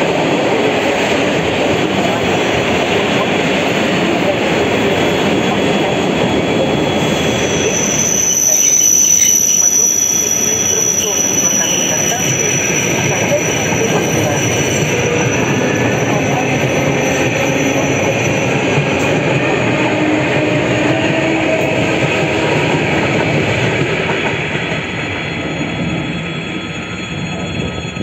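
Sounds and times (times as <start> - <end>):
train wheels rumbling over rails: 0.0 - 28.0
train whining tones: 0.0 - 28.0.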